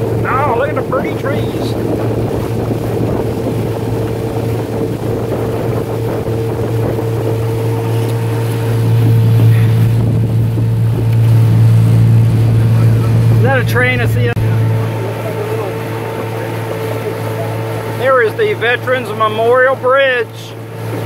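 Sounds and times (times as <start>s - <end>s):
motorboat engine drone: 0.0s - 21.0s
wind and water rushing: 0.0s - 21.0s.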